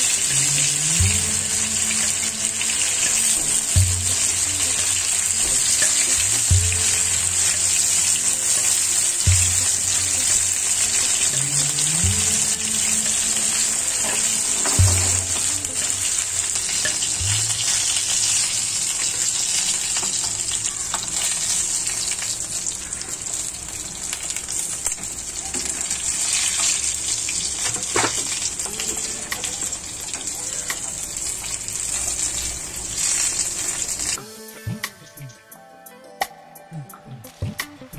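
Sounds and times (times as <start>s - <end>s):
fish sizzling in hot oil: 0.0s - 34.2s.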